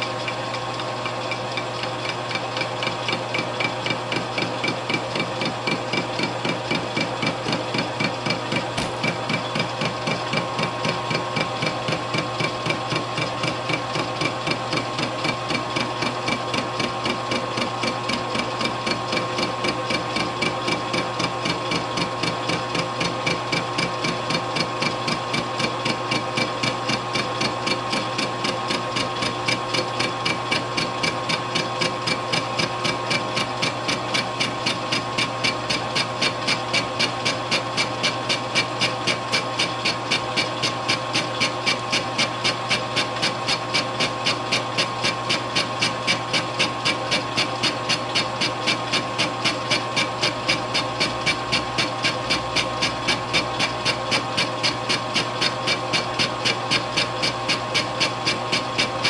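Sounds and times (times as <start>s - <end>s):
lathe motor hum and whine: 0.0s - 59.0s
lathe cutter tapping: 0.2s - 59.0s.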